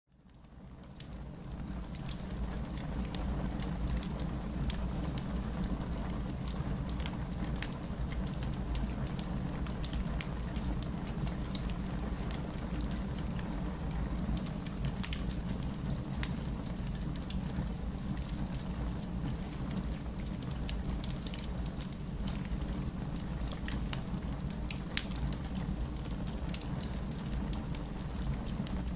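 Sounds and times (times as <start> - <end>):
rain falling: 0.3 - 28.9
wood fire crackling and popping: 0.3 - 28.9.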